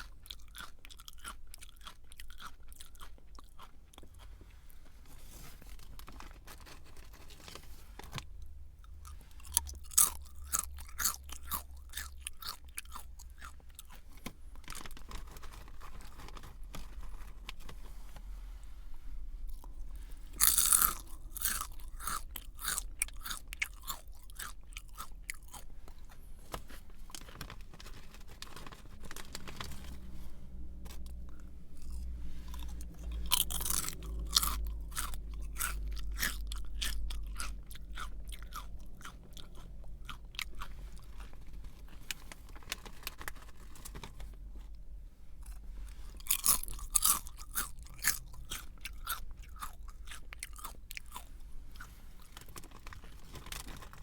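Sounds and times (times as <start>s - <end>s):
person chewing crunchy snack: 0.0s - 8.2s, 8.8s - 17.8s, 19.4s - 44.2s, 45.4s - 54.0s.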